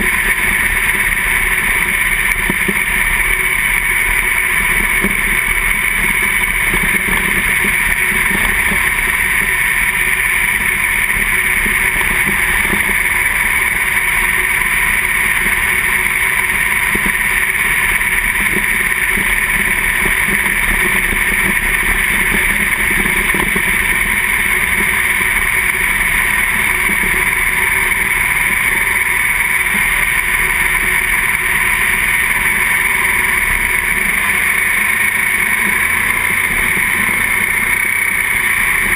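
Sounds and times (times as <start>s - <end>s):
race car engine drone: 0.0s - 38.9s.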